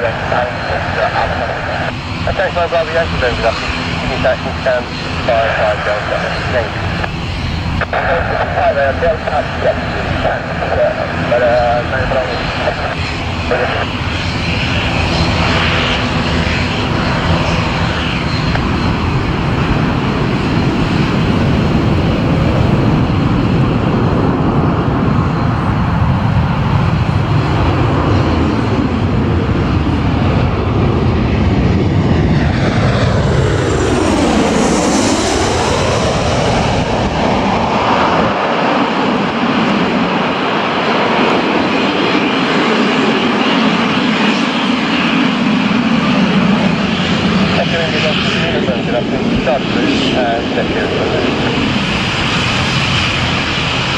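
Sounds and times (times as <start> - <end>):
aircraft engines passing: 0.0 - 53.9.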